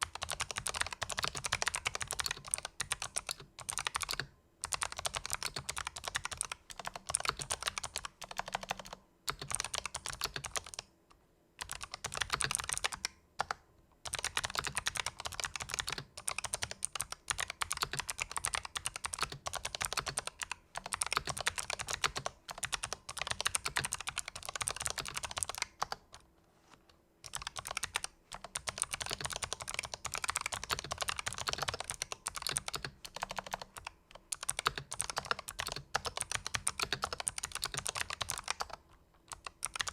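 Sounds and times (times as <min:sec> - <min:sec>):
fast clicky keyboard typing: 0:00.0 - 0:10.9, 0:11.6 - 0:26.2, 0:27.2 - 0:39.9.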